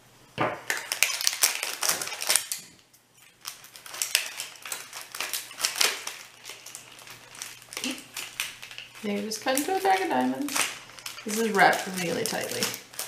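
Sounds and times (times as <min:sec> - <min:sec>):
plastic wrap crinkling: 0:00.6 - 0:13.0
scissors cutting plastic: 0:00.7 - 0:13.0.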